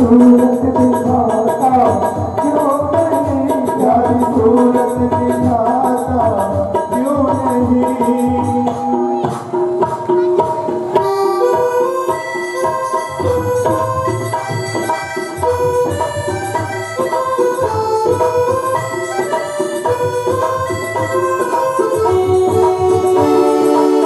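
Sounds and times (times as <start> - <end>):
harmonium melody: 0.0 - 24.0.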